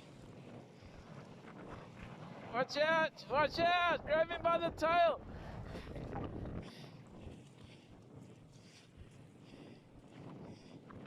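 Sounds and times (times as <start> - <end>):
faint wind: 0.0 - 11.0.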